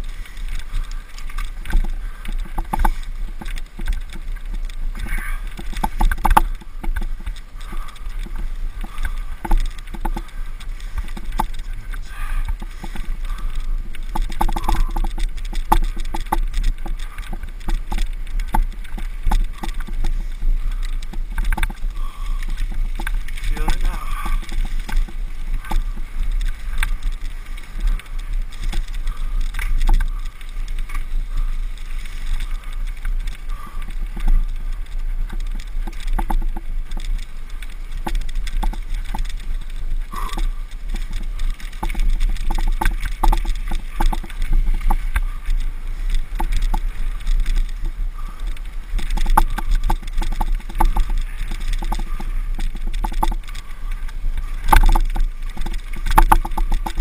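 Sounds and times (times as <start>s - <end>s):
bicycle tyre noise on dirt: 0.0s - 57.0s
bike rattling over bumps: 0.0s - 57.0s
wind rumble on microphone: 0.0s - 57.0s.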